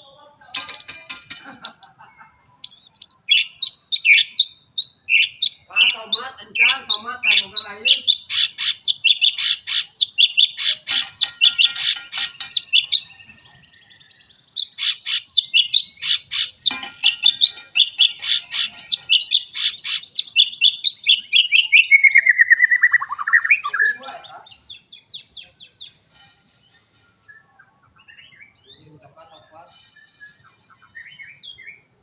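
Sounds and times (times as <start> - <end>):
bird singing whistled notes: 2.6 - 26.0, 27.2 - 31.9.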